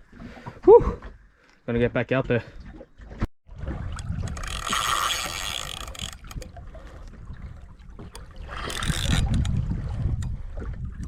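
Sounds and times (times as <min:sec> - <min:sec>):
wind and water rumble: 0:00.0 - 0:11.0.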